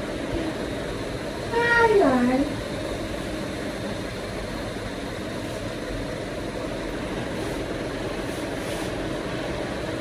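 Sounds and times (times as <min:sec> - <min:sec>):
steady mechanical drone: 0:00.0 - 0:10.0.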